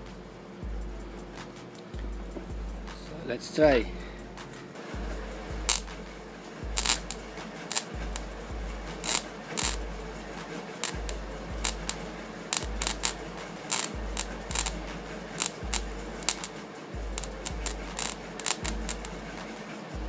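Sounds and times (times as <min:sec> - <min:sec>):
welding rod crackling and popping: 0:00.0 - 0:20.0.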